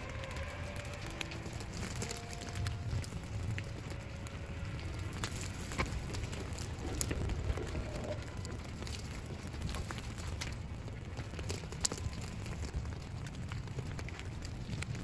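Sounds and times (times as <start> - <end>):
grass fire crackling: 0.0 - 15.0
low steady rumble: 0.0 - 15.0.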